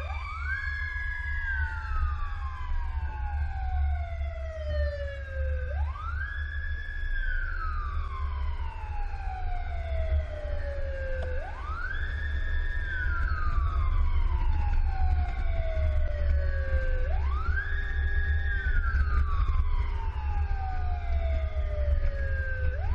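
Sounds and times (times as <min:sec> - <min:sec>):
fire engine siren wailing: 0:00.0 - 0:22.9
wind: 0:00.0 - 0:22.9.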